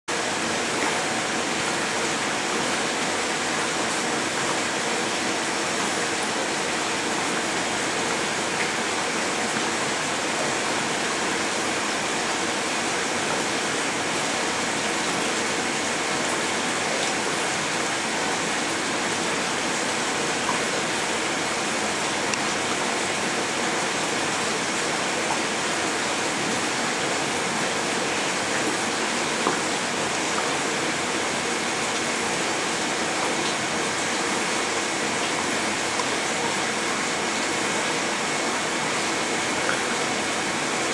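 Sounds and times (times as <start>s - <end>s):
running water in a tank: 0.1s - 40.9s.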